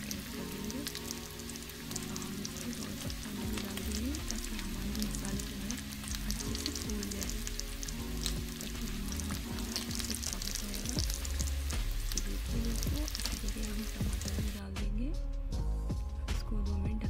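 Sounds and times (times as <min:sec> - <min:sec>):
spices sizzling in hot oil: 0:00.0 - 0:14.6
background music: 0:00.0 - 0:17.0.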